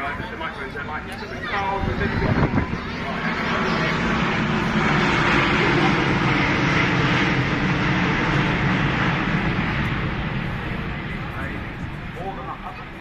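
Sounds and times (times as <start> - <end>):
jet engine rumble and hiss: 0.0 - 13.0.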